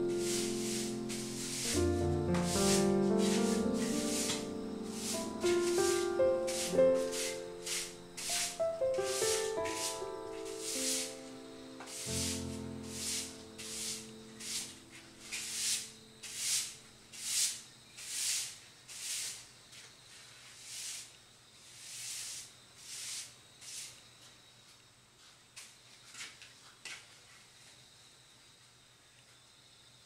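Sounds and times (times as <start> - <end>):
broom sweeping a hard floor: 0.0 - 24.4.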